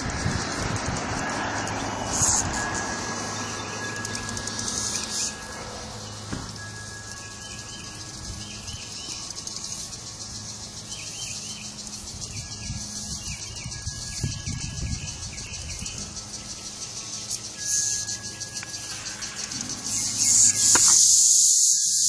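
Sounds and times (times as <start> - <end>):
cicadas buzzing: 0.0 - 22.0.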